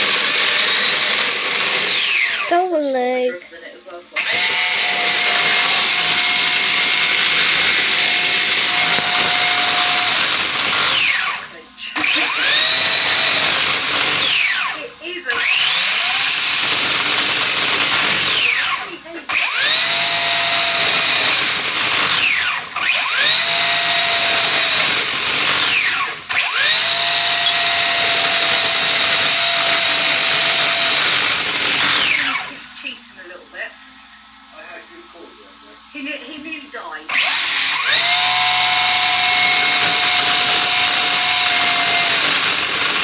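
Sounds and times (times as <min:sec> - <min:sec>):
rc car motor whine: 0:00.0 - 0:02.5, 0:04.2 - 0:36.2, 0:37.1 - 0:43.0.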